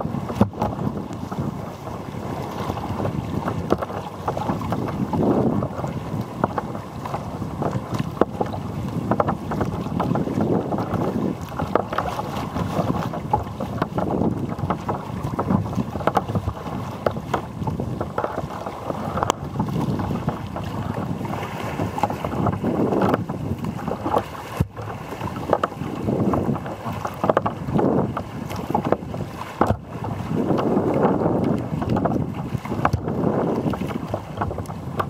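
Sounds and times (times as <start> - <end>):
waves slapping kayak hull: 0.0 - 35.0
wind buffeting microphone: 0.0 - 35.0.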